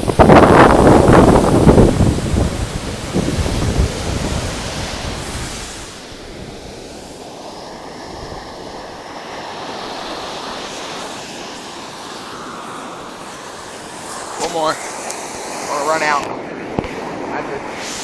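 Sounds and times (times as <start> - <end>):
ocean surf washing on shore: 0.0 - 18.0
wind buffeting microphone: 0.0 - 18.0.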